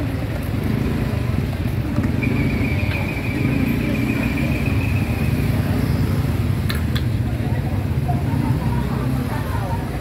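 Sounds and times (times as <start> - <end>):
motorcycle and car engines rumbling: 0.0 - 10.0.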